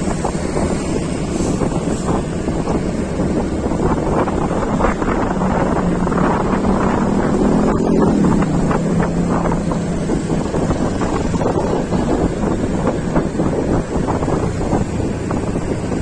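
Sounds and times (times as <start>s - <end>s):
vehicle engine humming: 0.0s - 16.0s
wind noise on microphone: 0.0s - 16.0s.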